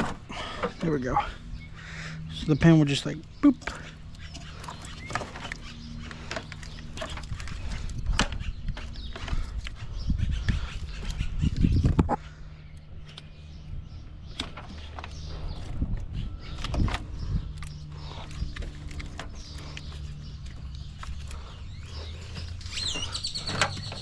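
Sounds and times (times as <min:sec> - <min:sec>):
low rumbling: 0:00.0 - 0:24.0
steady low hum: 0:00.0 - 0:24.0.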